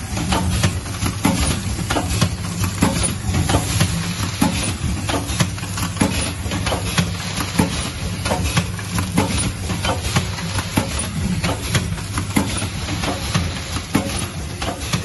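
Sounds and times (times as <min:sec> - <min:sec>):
machine motor hum: 0:00.0 - 0:15.0
mechanical clicks and knocks: 0:00.1 - 0:15.0.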